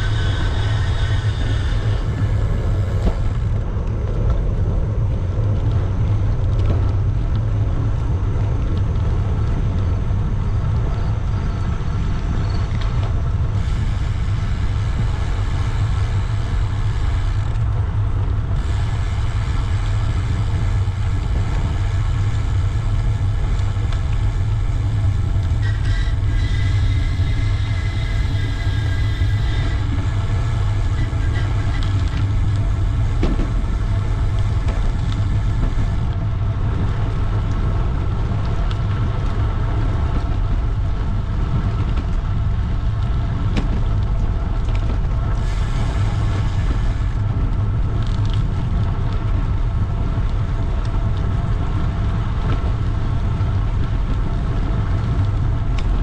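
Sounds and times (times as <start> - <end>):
bicycle riding rumble: 0.0 - 56.0
road traffic: 0.0 - 56.0.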